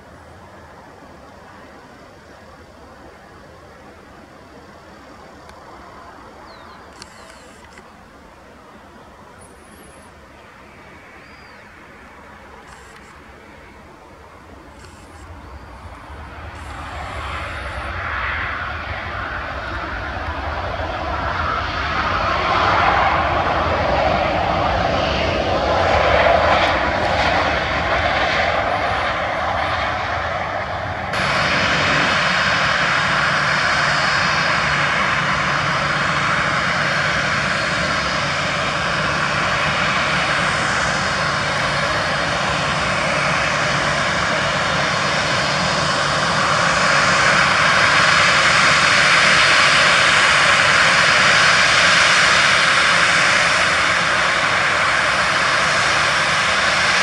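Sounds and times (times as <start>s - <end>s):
jet engines whining and hissing: 0.0s - 57.0s.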